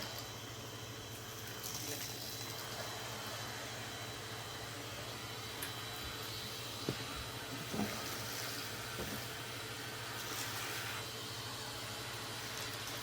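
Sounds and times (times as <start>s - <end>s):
machine humming and hissing: 0.0s - 13.0s.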